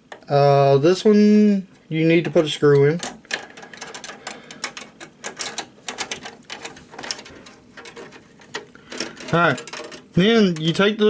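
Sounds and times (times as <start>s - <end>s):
hands handling computer parts: 1.7s - 11.0s.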